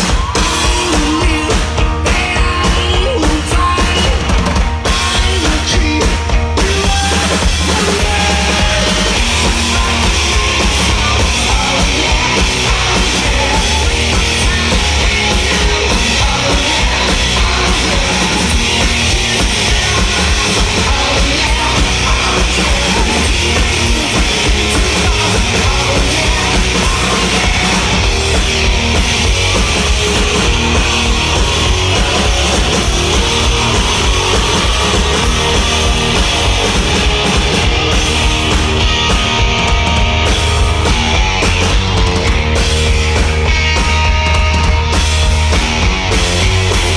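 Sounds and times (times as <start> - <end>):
drum kit: 0.0 - 46.9
electric guitar: 0.0 - 46.9.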